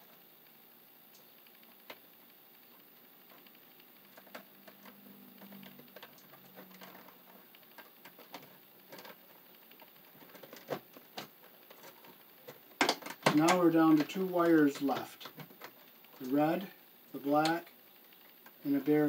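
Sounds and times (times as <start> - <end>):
wires clicking in plastic box: 2.7 - 16.5, 17.3 - 18.9.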